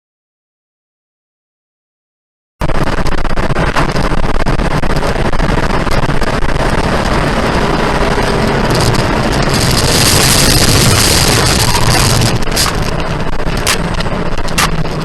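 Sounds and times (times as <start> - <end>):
vehicle road and engine noise: 2.6 - 15.0.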